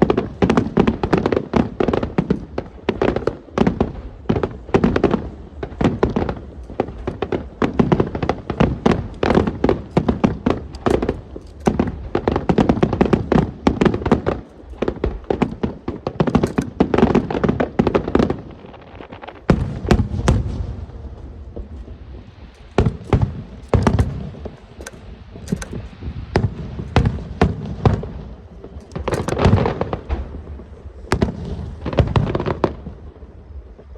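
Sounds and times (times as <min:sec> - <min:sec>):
fireworks bangs and crackles: 0:00.0 - 0:33.9.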